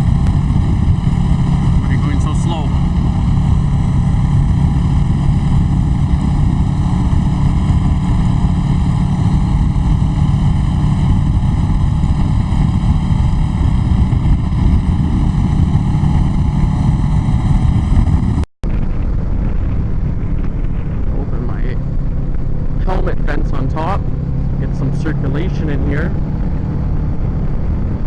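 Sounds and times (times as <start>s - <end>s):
motorcycle engine cruising: 0.0s - 28.0s
wind rushing over microphone: 0.0s - 28.0s.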